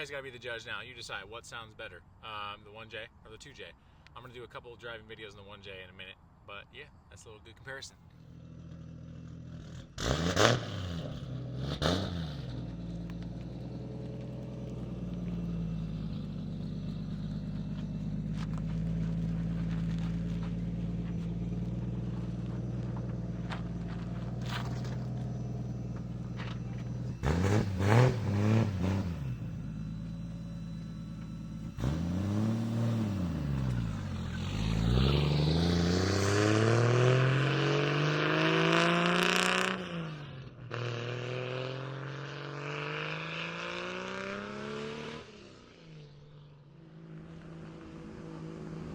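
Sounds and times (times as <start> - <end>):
car engine revving: 8.2 - 48.9.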